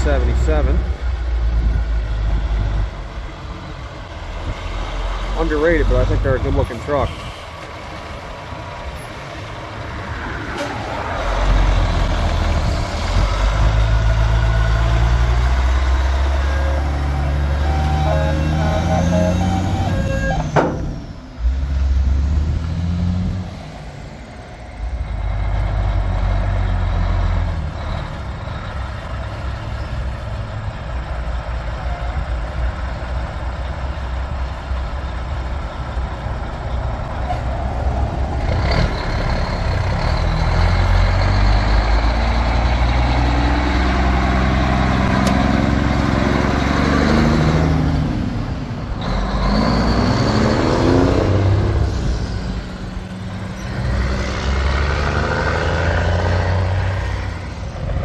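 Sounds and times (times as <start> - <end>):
box truck diesel accelerating: 0.0 - 58.0
diesel truck engines passing: 0.0 - 58.0.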